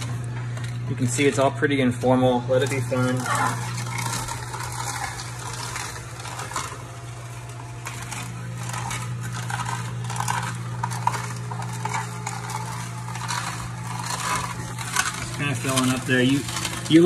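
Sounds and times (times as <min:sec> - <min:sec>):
auger crushing celery crackling: 0:00.0 - 0:17.0
juicer motor hum: 0:00.0 - 0:17.0.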